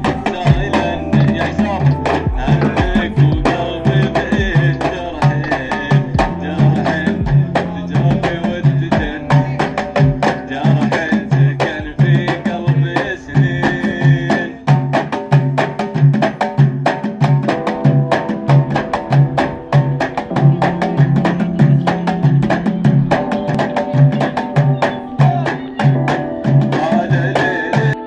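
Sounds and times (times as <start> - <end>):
pitched melody: 0.0 - 15.0, 17.4 - 28.0
frame drums beating: 0.0 - 28.0.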